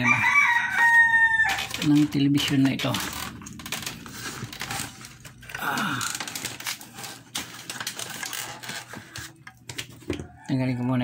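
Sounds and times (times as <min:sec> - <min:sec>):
plastic parts clicking and rattling: 0:01.4 - 0:10.3.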